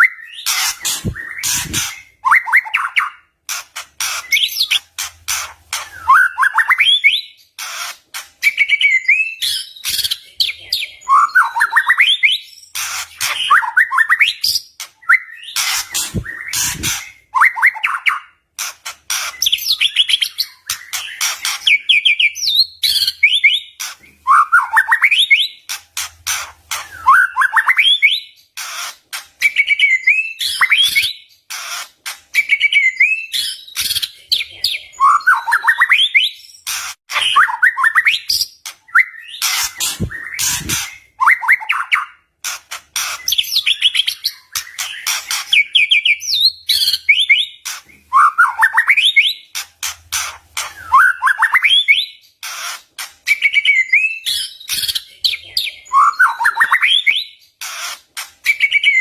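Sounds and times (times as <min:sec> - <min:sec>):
bird whistled song: 0:00.0 - 0:03.3, 0:04.2 - 0:04.8, 0:05.8 - 0:07.4, 0:08.4 - 0:18.4, 0:19.3 - 0:25.6, 0:26.7 - 0:28.8, 0:29.4 - 0:31.4, 0:32.4 - 0:42.2, 0:43.2 - 0:49.4, 0:50.6 - 0:52.3, 0:53.3 - 0:55.1, 0:55.8 - 0:57.5, 0:58.4 - 0:59.0.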